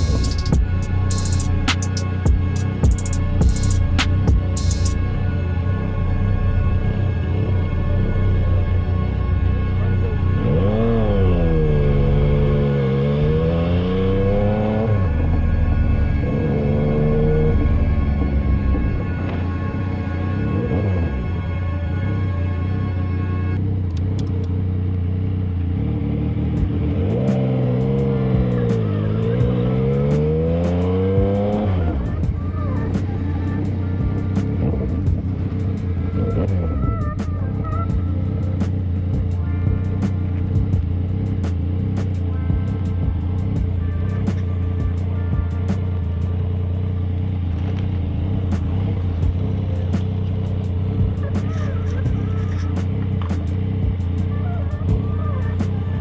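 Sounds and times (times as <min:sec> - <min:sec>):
low drone: 0:00.0 - 0:56.0
vehicle engine accelerating: 0:00.0 - 0:56.0.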